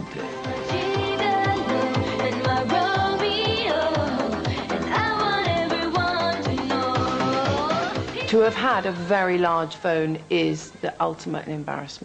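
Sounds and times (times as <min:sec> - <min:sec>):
music with steady beat: 0:00.0 - 0:10.3.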